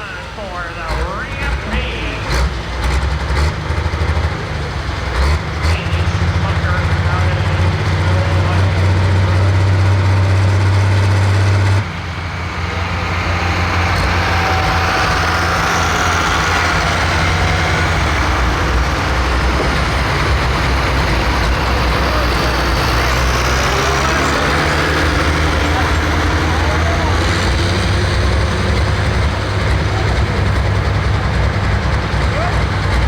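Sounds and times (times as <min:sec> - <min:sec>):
loud diesel engine running: 0:00.0 - 0:33.0
rising turbo whine: 0:05.4 - 0:33.0.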